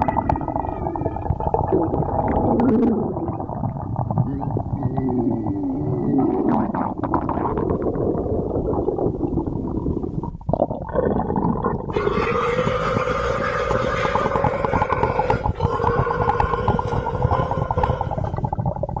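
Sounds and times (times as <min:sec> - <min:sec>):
stomach growling: 0:00.0 - 0:19.0.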